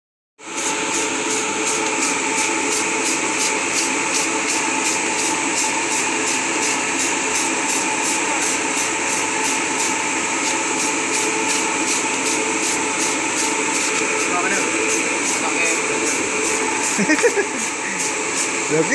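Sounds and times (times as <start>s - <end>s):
duct fan air rush and hum: 0.4s - 18.9s.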